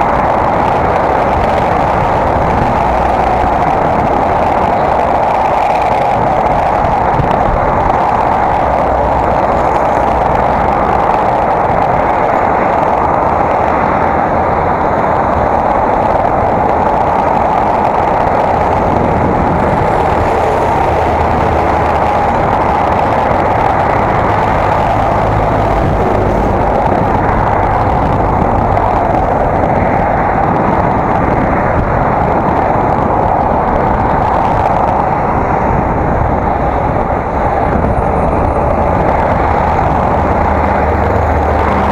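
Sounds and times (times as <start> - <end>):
bicycle rolling noise: 0.0 - 41.9
wind: 0.0 - 41.9.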